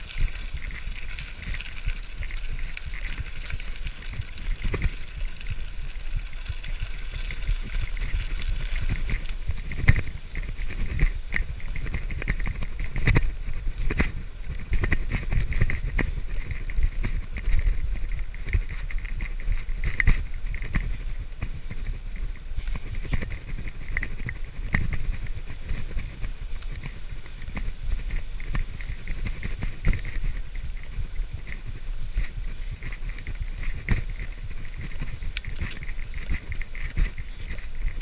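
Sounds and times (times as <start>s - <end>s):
bicycle tyre rumble: 0.0s - 38.0s
wind noise: 0.0s - 38.0s.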